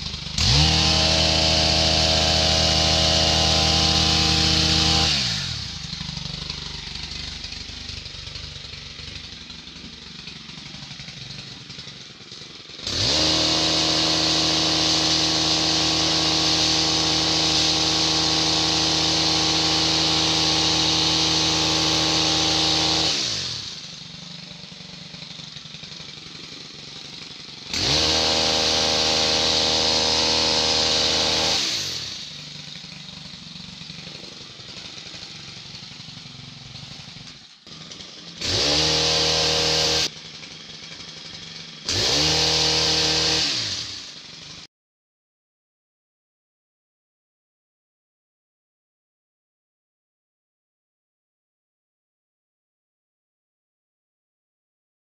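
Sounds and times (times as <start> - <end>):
hedge trimmer engine revving: 0.0 - 44.7.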